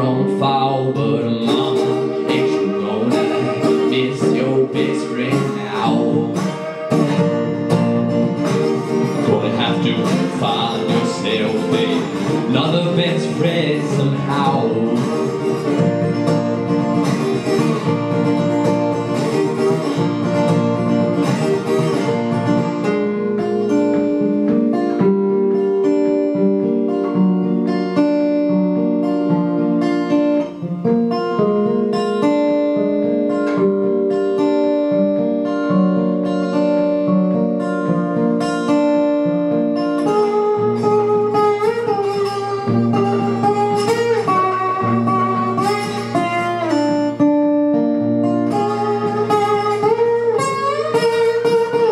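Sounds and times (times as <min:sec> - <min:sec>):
fingerstyle acoustic guitar: 0:00.0 - 0:51.9.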